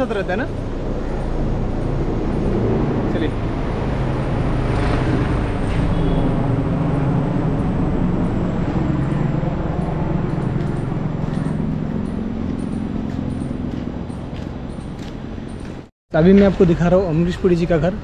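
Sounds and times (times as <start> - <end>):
vehicle engine running: 0.0 - 15.9
road noise rush: 0.0 - 18.0.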